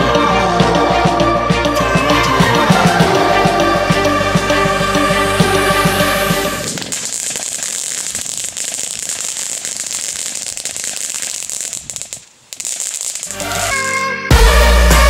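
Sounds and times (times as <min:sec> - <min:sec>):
firework crackling: 0:01.8 - 0:14.8.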